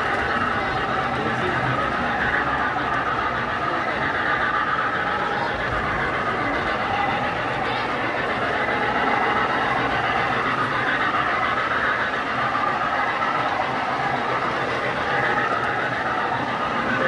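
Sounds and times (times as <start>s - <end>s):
model train wheels rumbling on rails: 0.0s - 17.0s.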